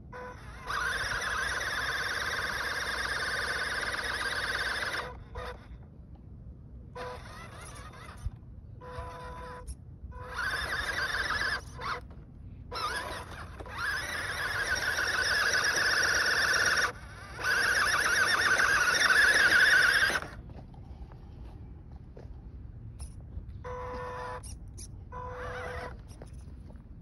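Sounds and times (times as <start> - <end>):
electric motor whining: 0.1 - 5.8, 6.9 - 20.4, 23.0 - 26.4.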